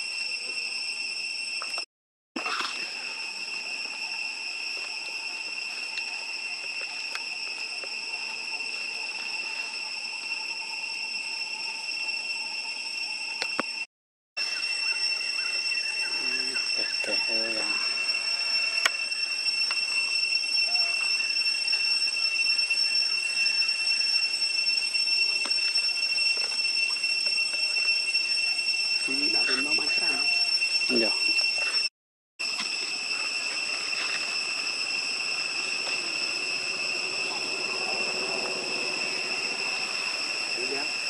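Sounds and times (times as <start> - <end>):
cicadas droning: 0.0 - 41.0
insects buzzing: 0.0 - 41.0.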